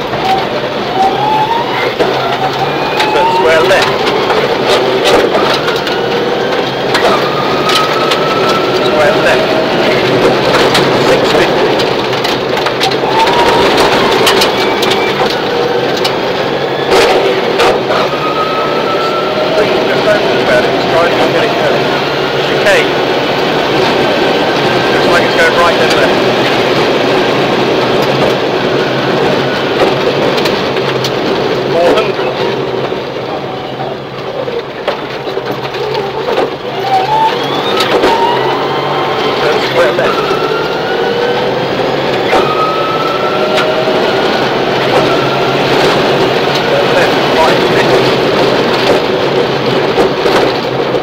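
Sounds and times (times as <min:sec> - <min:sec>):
rally car engine under load: 0:00.0 - 0:51.0.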